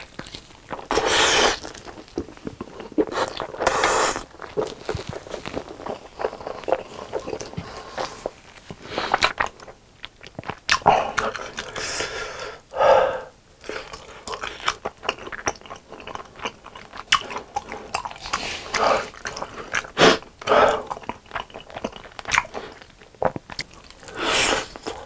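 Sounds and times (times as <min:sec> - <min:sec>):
close chewing with wet mouth smacks: 0:00.0 - 0:11.8, 0:13.7 - 0:25.0.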